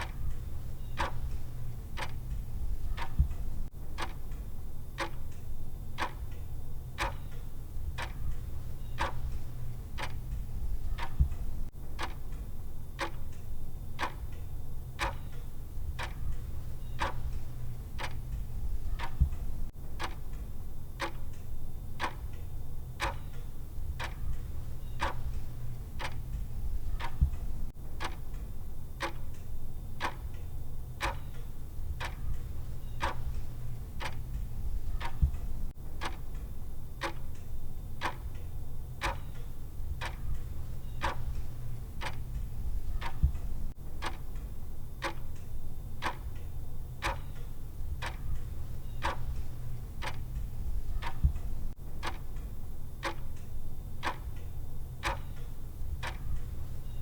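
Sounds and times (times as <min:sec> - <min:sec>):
sharp clock ticks: 0:00.0 - 0:57.0.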